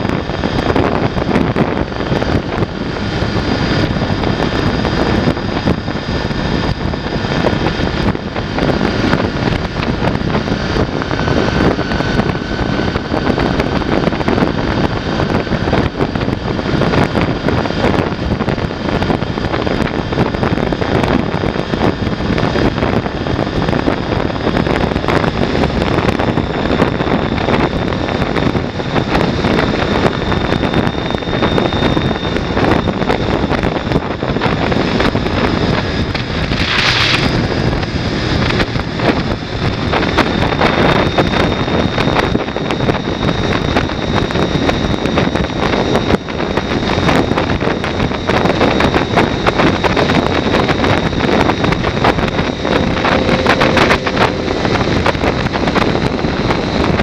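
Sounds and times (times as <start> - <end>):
faint steady whine: 0.0 - 57.0
motorcycle engine cruising: 0.0 - 57.0
wind rush on microphone: 0.0 - 57.0.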